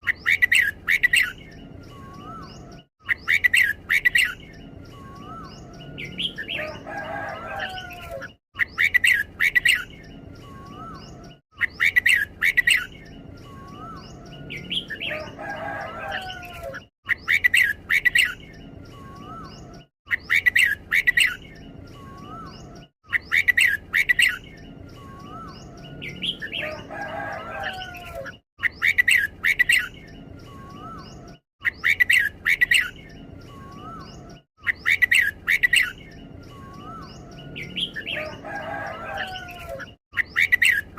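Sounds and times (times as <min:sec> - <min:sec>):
bulbul singing whistled phrases: 0:00.0 - 0:40.9
soft bird chatter: 0:00.0 - 0:40.9.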